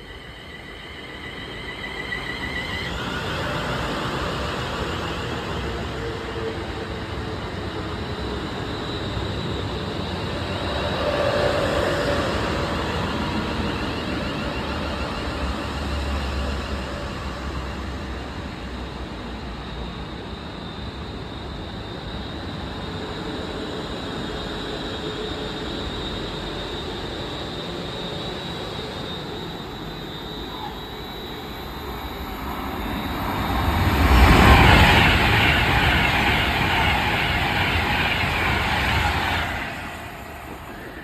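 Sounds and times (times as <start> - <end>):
electric train departing: 0.0 - 41.0
faint high whine: 0.0 - 41.0.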